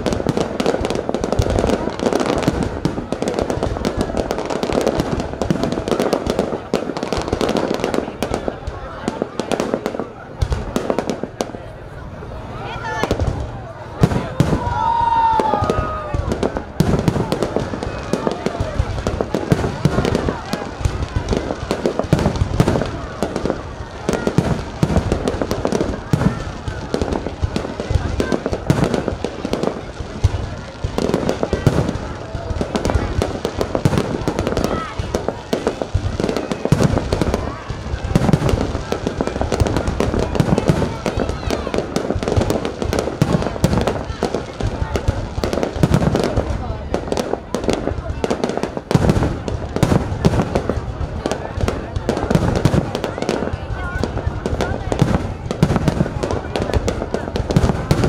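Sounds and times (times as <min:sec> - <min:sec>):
fireworks crackling: 0:00.0 - 0:58.0
heavy low firework bangs: 0:00.0 - 0:58.0.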